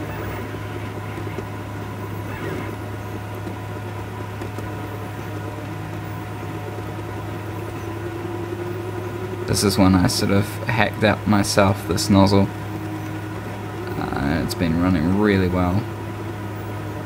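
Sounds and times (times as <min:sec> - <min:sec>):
faint whining tones: 0:00.0 - 0:17.0
three d printer humming: 0:00.0 - 0:17.0.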